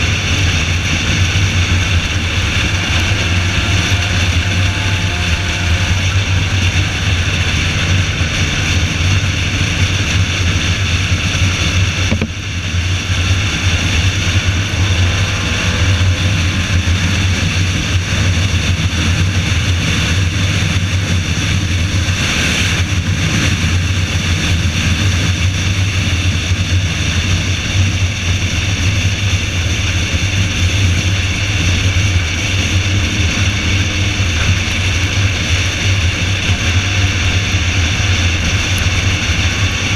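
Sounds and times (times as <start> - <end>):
car engine drone: 0.0 - 39.9
wind and road noise: 0.0 - 39.9.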